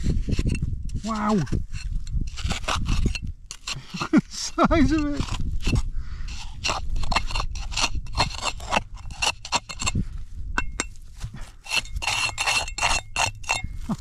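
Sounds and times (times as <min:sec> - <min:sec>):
metal tool scraping dry soil: 0:00.0 - 0:14.0.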